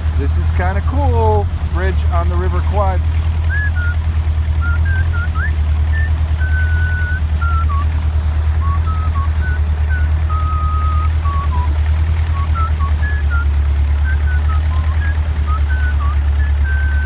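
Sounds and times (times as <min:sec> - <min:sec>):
boat engine droning: 0:00.0 - 0:17.0
person whistling a tune: 0:02.8 - 0:17.0.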